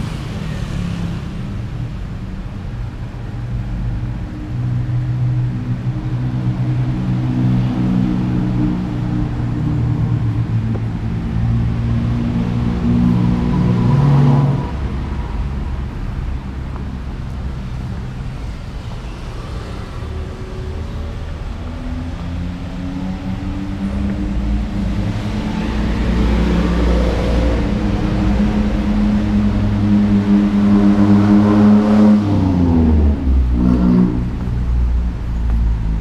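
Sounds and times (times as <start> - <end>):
vehicle engines running: 0.0 - 36.0.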